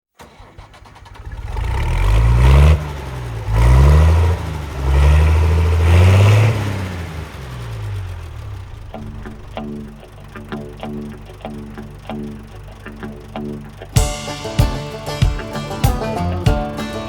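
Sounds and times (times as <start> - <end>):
vehicle engine revving: 0.2 - 14.0.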